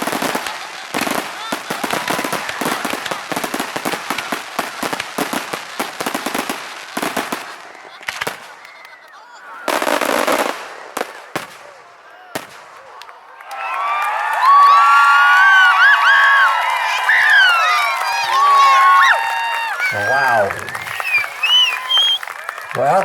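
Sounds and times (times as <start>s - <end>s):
crowd cheering and whooping: 0.0s - 4.8s, 7.5s - 11.0s, 12.1s - 23.0s
fireworks bangs and crackles: 0.0s - 13.5s, 14.4s - 23.0s.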